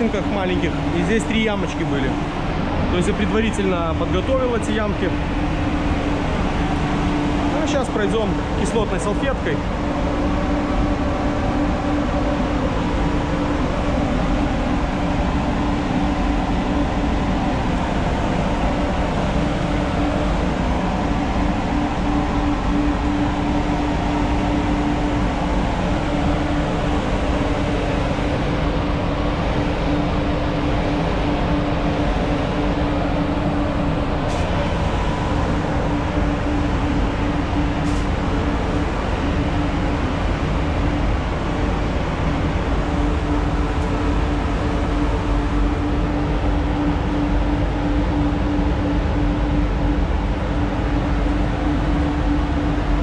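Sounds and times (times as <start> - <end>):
ventilation fans running: 0.0 - 53.0.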